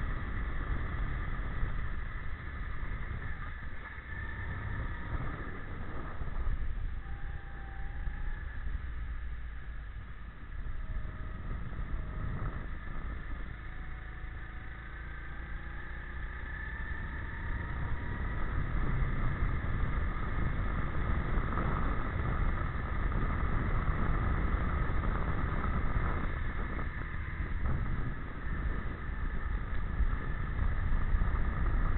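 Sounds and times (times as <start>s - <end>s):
go-kart engine accelerating: 0.0s - 31.9s.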